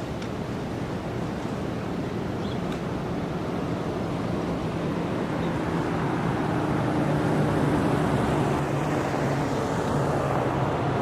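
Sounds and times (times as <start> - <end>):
low engine hum: 0.0 - 11.0
traffic rushing: 0.0 - 11.0.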